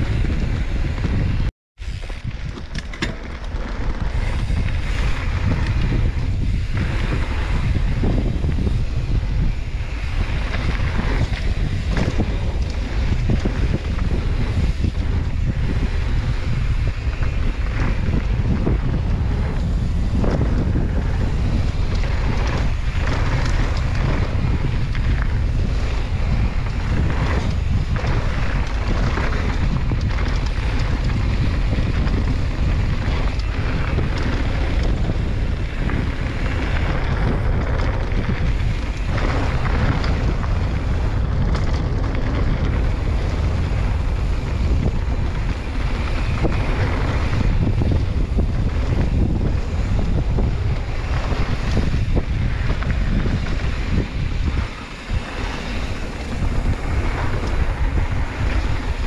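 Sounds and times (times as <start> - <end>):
bike knocks and rattles: 0.0 - 59.0
wind buffeting microphone: 0.0 - 59.0.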